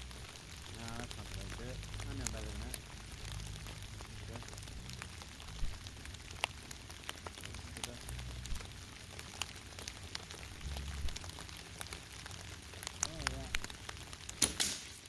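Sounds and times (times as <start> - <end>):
low rumbles: 0.0 - 14.4
light crackles and rustles: 0.0 - 15.0.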